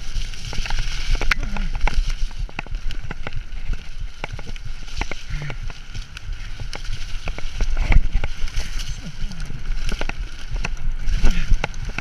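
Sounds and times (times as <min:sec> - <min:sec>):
bike rattling over bumps: 0:00.0 - 0:12.0
wind and tyre rumble: 0:00.0 - 0:12.0.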